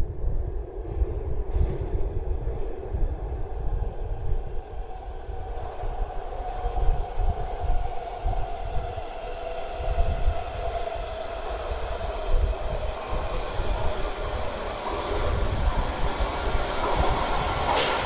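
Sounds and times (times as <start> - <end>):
subway train rumble and whine: 0.0 - 18.0.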